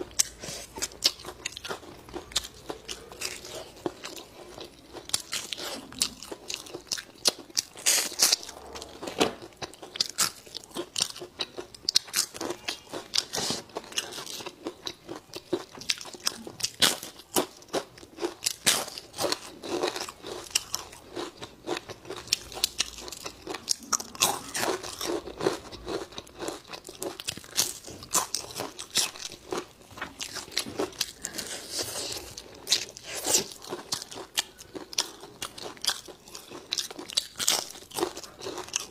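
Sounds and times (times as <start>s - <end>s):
crunchy chewing of fried food: 0.0s - 38.9s.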